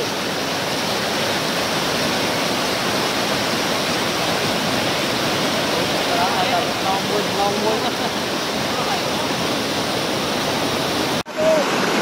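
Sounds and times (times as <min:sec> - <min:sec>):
water rushing over spillway: 0:00.0 - 0:12.0.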